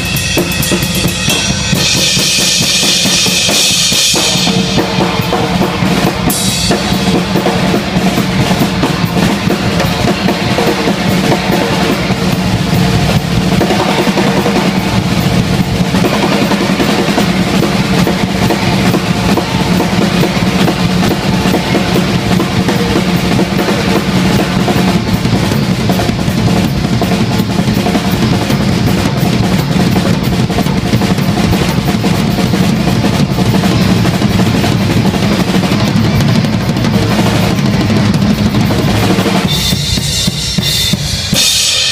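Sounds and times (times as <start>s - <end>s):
cymbal crash: 0.0s - 41.9s
drum solo: 0.0s - 41.9s.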